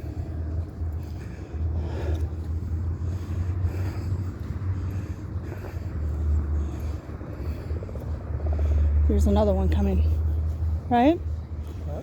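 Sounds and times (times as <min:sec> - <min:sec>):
helicopter rotor drone: 0:00.0 - 0:12.0
wind buffeting microphone: 0:00.0 - 0:12.0.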